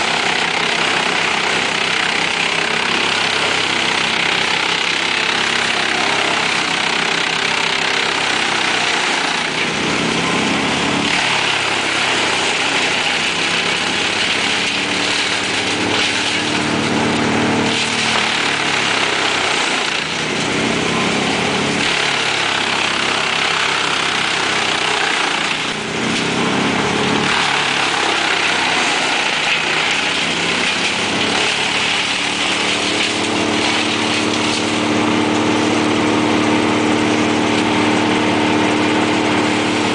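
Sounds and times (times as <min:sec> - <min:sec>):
wood chipper chipping brush: 0:00.0 - 0:39.9.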